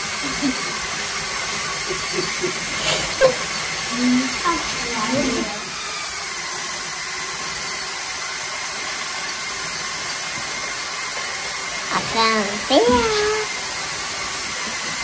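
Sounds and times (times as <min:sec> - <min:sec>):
toy motors whirring: 0:00.0 - 0:13.7.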